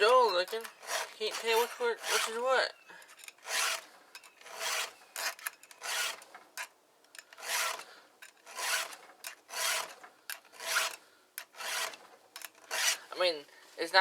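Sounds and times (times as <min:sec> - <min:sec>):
file rasping on chainsaw chain: 0:00.0 - 0:02.5, 0:03.4 - 0:06.2, 0:07.3 - 0:13.2.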